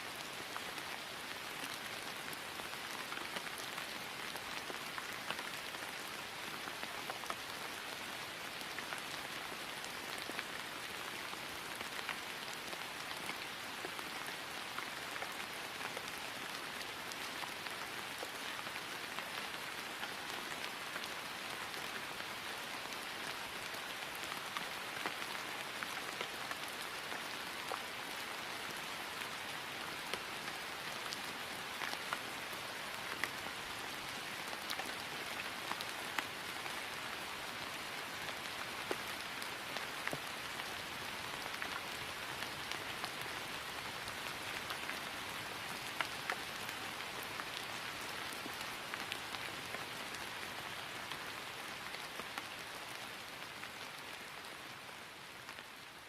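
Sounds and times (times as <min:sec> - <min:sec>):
rain falling on grass: 0:00.0 - 0:56.0.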